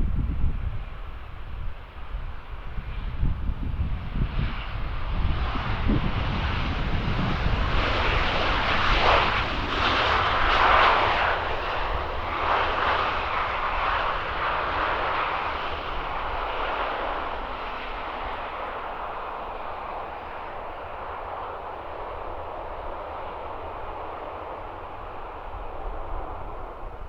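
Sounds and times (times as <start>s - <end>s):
jet airliner passing: 0.0s - 27.0s.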